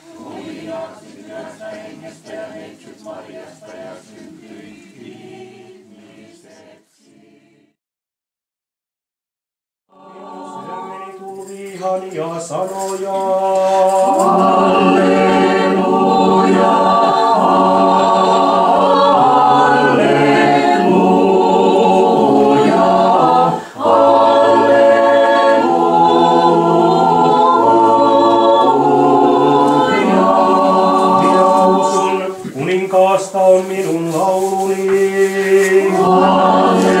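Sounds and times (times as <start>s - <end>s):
choir singing chant a cappella: 0.0s - 7.8s, 9.9s - 37.0s.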